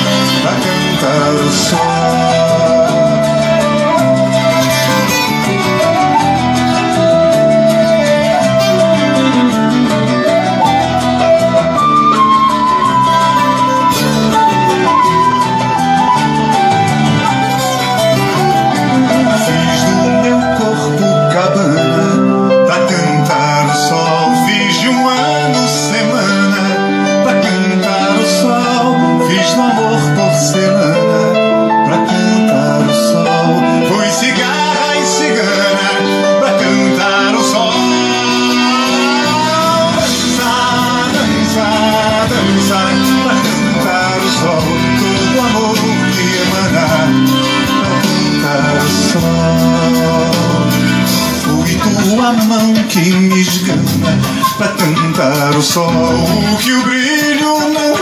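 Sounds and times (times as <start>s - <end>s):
plucked string instrumental music: 0.0s - 58.0s
song with steady beat: 0.0s - 58.0s.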